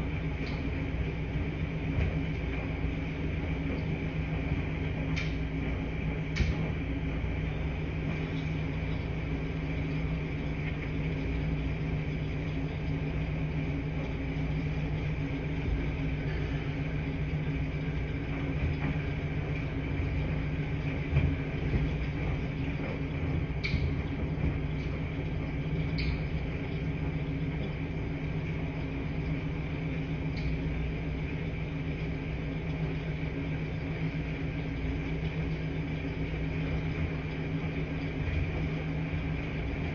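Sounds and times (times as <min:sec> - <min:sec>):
washing machines humming: 0:00.0 - 0:39.9.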